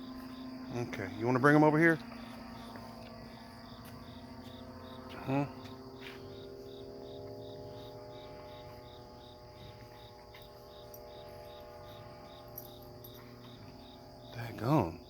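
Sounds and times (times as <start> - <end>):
faint steady hum: 0.0 - 15.0
insects chirping: 0.0 - 15.0.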